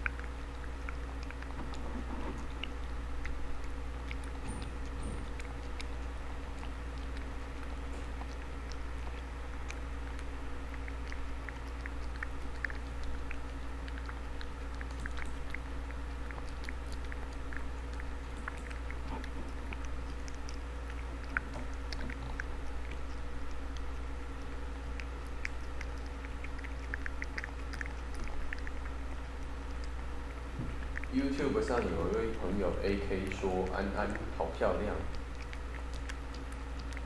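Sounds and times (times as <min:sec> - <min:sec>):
cat chewing food: 0:00.0 - 0:37.0
low hum: 0:00.0 - 0:37.0.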